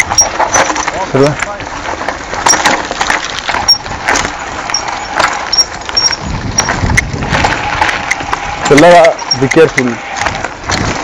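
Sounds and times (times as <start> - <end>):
mountain bike rattling: 0.0 - 11.0
tyre noise: 0.0 - 11.0.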